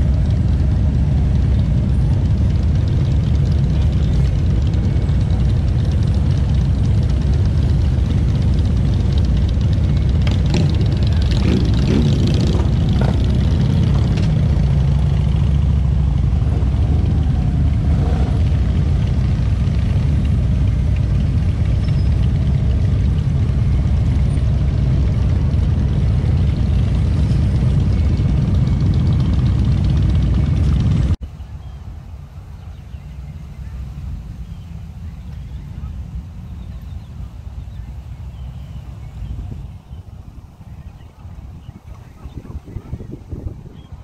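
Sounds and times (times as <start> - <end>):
motorcycle engines rumbling: 0.0 - 44.0.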